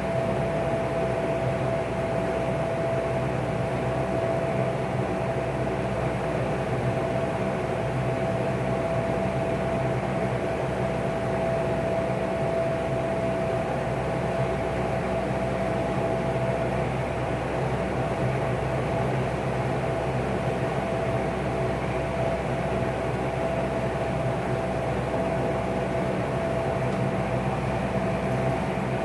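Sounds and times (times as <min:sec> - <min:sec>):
box fan running: 0:00.0 - 0:29.0.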